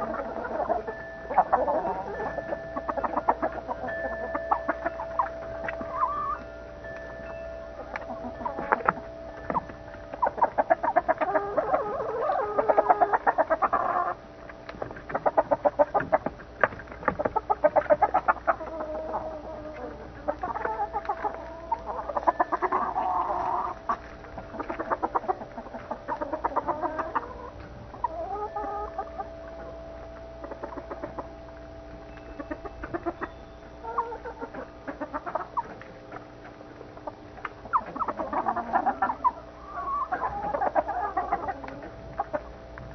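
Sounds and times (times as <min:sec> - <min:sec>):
hens clucking: 0:00.0 - 0:42.9.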